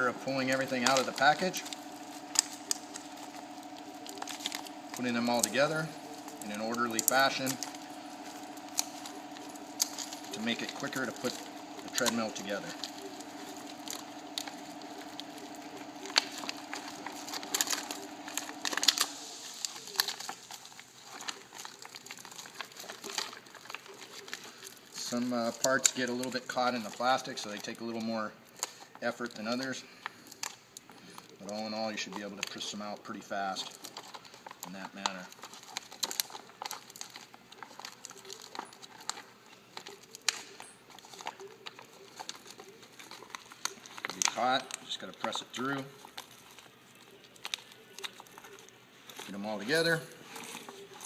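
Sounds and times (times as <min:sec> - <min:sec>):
plastic snapping: 0:00.0 - 0:27.7, 0:33.6 - 0:51.0
plastic packaging crinkling: 0:00.0 - 0:51.0
steady hum: 0:00.0 - 0:51.0.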